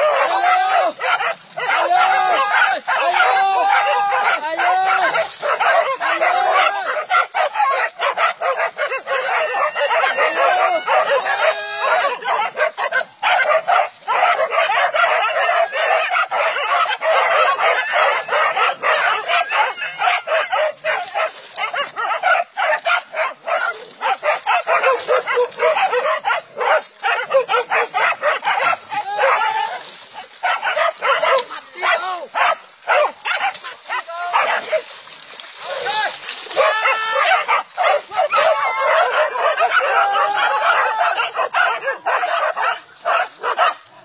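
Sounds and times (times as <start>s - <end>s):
dogs barking and yelping: 0.0s - 34.9s, 35.6s - 44.0s.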